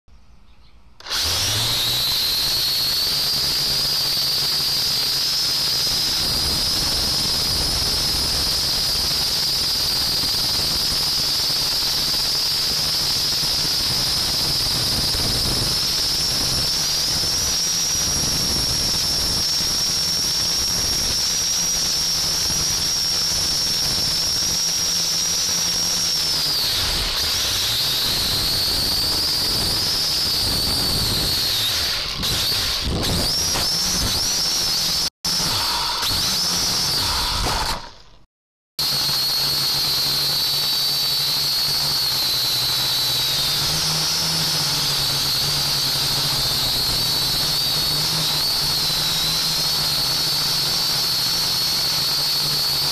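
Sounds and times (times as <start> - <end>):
drone motors whining: 1.0 - 52.9.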